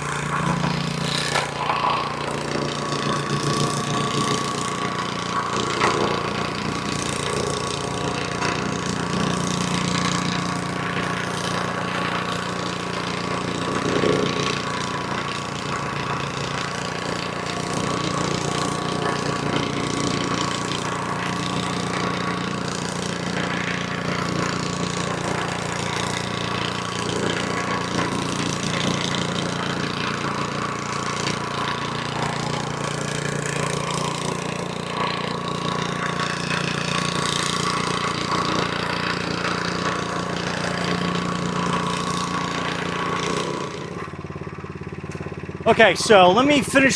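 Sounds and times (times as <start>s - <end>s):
vibrating plate compacting stone: 0.0s - 44.2s
plate compactor engine running: 0.0s - 46.9s.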